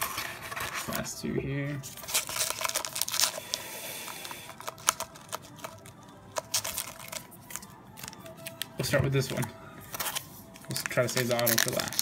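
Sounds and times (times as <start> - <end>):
wrappers crinkling: 1.8 - 12.0.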